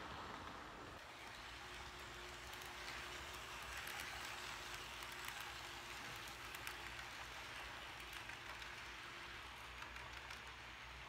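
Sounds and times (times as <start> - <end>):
model train whirring: 0.0 - 11.0.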